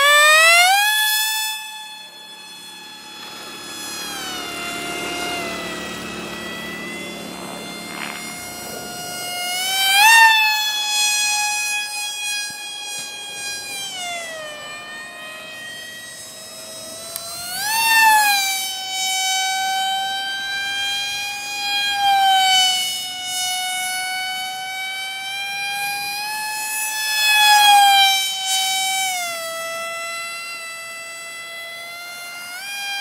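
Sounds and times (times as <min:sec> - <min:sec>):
electric motor propeller whining: 0:00.0 - 0:33.0.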